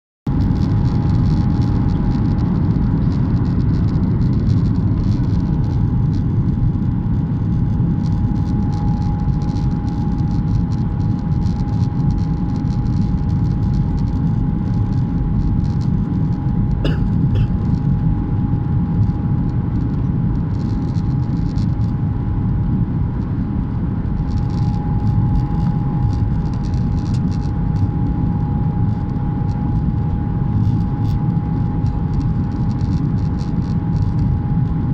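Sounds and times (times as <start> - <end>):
airliner engine rumble: 0.3 - 34.9.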